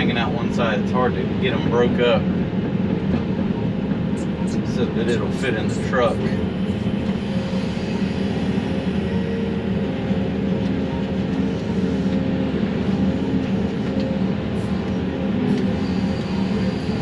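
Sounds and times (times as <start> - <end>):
excavator diesel engine humming: 0.0 - 17.0.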